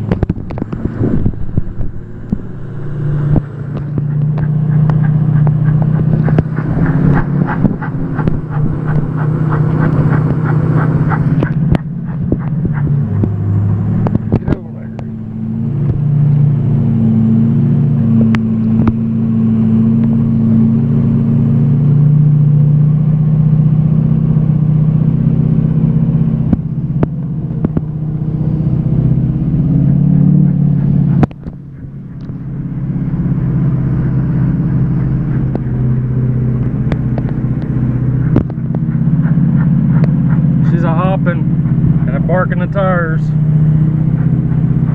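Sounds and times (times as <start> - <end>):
diesel engine under heavy load: 0.0 - 44.9
tires spinning and barking on pavement: 0.0 - 44.9.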